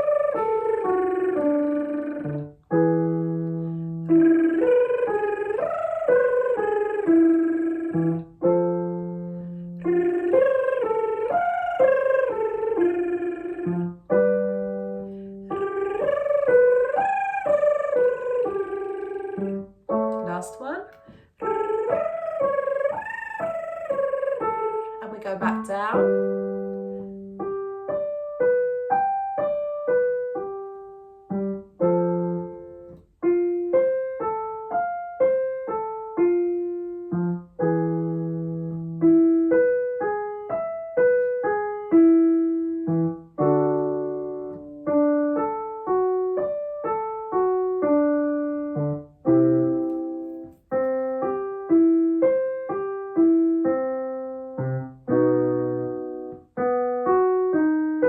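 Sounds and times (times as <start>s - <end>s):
piano playing arpeggios: 0.0s - 58.0s.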